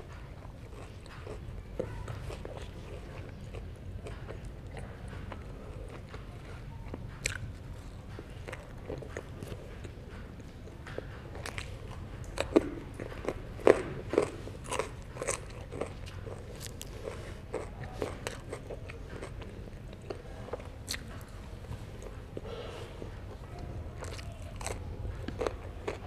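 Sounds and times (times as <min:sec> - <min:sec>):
person chewing with crunches: 0:00.0 - 0:26.0.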